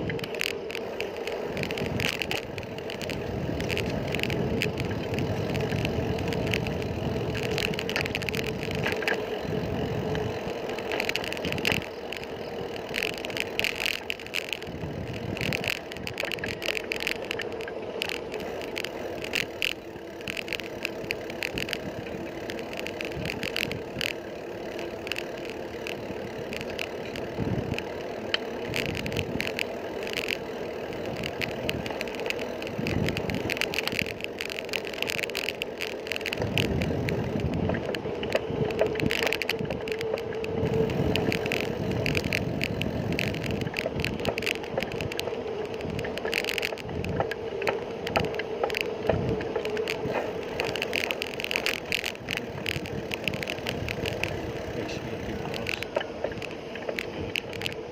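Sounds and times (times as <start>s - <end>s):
bicycle rattles and clicks: 0.0s - 57.9s
tyre and road noise: 0.0s - 57.9s.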